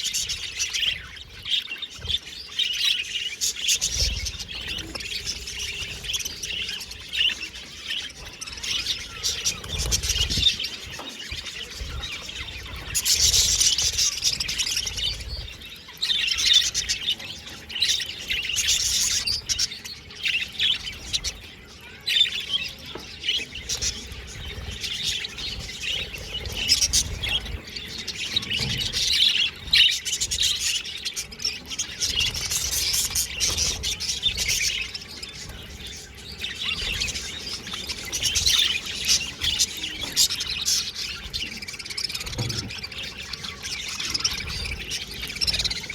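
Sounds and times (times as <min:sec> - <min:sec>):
budgerigars chirping and warbling: 0:00.0 - 0:45.9.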